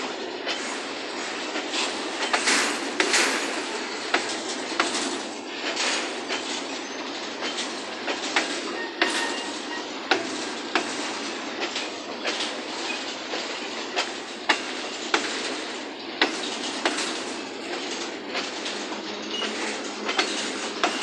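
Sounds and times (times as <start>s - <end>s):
steel wheels rolling on rail: 0.0s - 21.0s
wheels clacking over rail joints: 0.0s - 21.0s.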